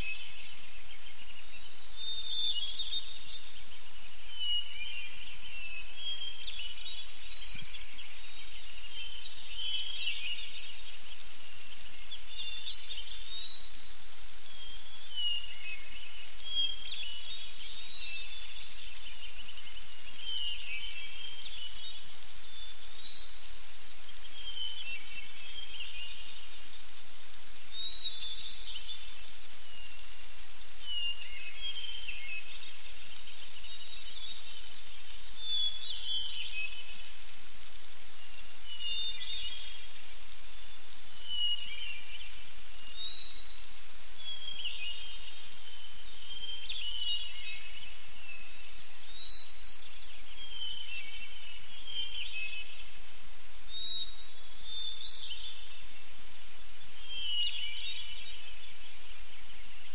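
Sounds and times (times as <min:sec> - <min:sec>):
songbirds singing and chirping: 0:00.0 - 0:59.9
steady high hiss: 0:00.0 - 0:59.9.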